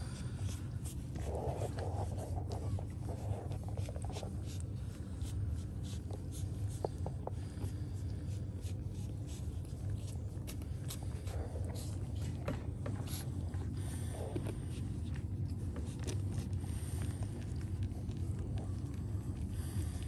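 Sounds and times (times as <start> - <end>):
puppies suckling: 0.0 - 20.0.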